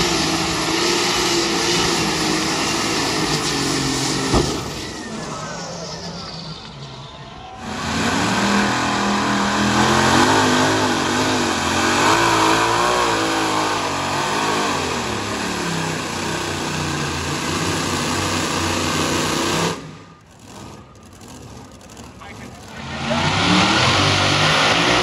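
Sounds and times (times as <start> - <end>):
tractor engine at full throttle: 0.0 - 6.9, 7.6 - 25.0.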